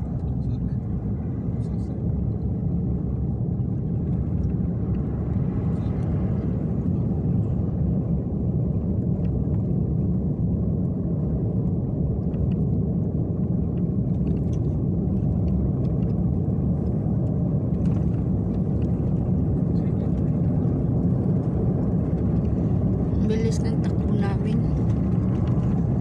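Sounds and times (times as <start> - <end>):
car interior road rumble: 0.0 - 26.0.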